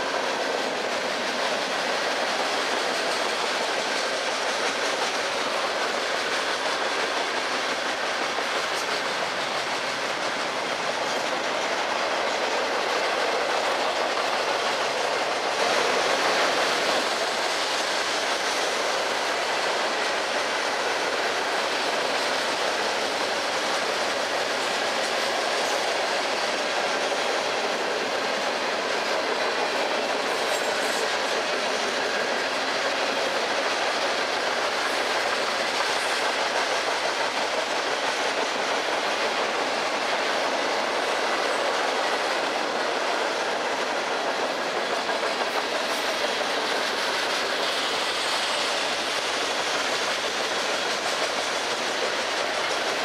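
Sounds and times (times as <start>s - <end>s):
steel wheels on rails: 0.0s - 53.0s.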